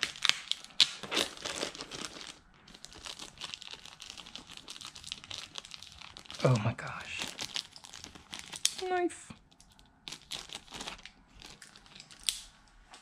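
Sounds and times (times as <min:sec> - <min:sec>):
plastic wrapping crinkling: 0:00.0 - 0:12.5.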